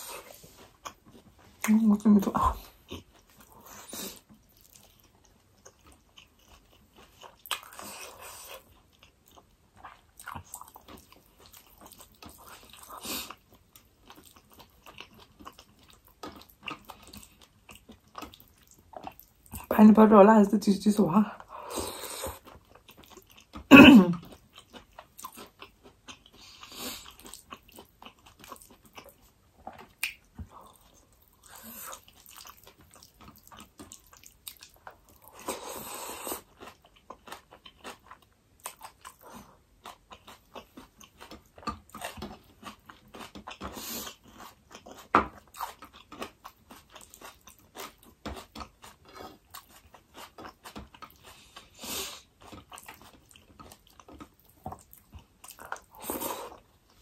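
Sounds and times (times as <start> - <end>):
person chewing and lip smacking: 0.0 - 19.7, 21.3 - 57.0.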